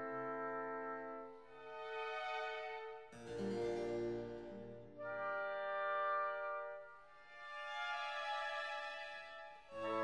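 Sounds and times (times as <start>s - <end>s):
background music sustained notes: 0.0s - 10.0s.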